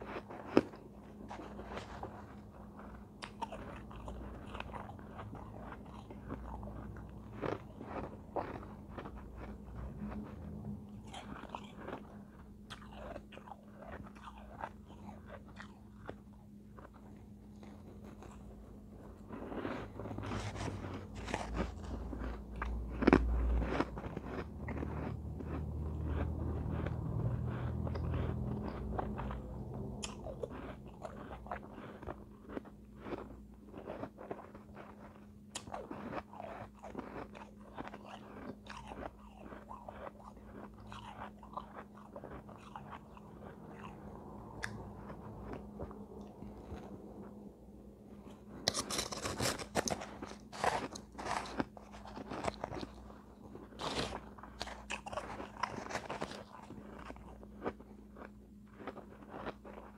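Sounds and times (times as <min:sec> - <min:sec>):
low electrical hum: 0:00.0 - 0:59.9
person chewing shaved ice: 0:00.0 - 0:59.9.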